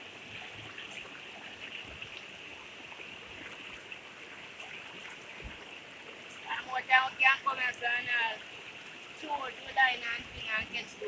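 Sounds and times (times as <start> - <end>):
river water running over rocks: 0.0 - 11.0.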